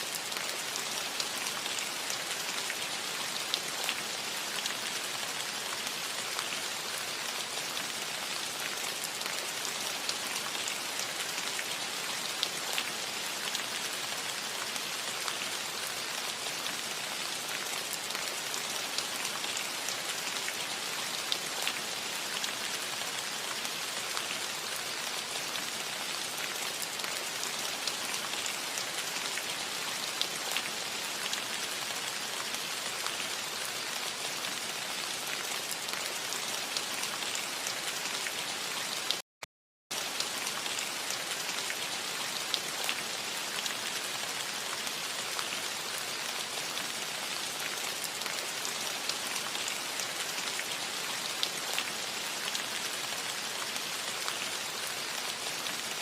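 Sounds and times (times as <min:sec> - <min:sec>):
light rain on a metal roof: 0:00.0 - 0:39.2, 0:39.9 - 0:56.0.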